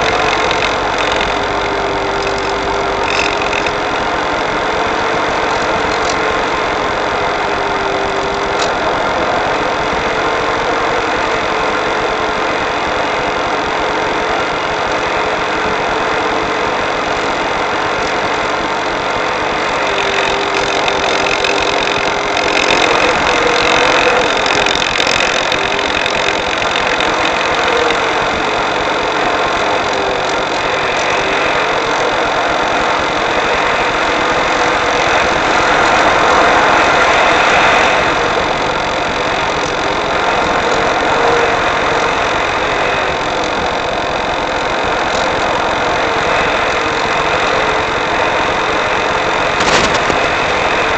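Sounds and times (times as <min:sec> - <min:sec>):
faint wavering hum: 0:00.0 - 0:50.9.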